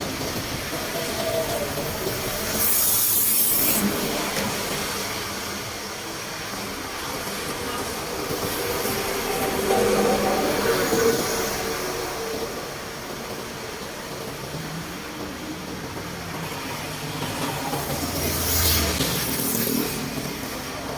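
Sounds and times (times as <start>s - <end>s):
water rushing through drain: 0.0s - 20.9s.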